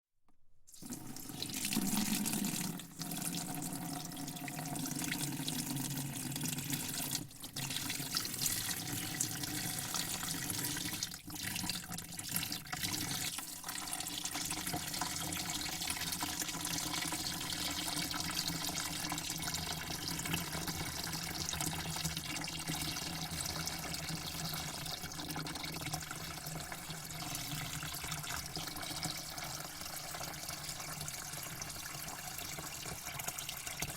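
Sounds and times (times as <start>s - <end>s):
water spraying into a bucket: 0.7s - 30.4s.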